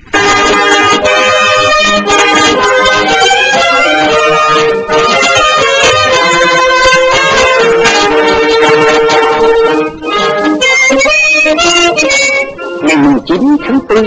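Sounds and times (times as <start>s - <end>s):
background music with held notes: 0.0s - 14.0s.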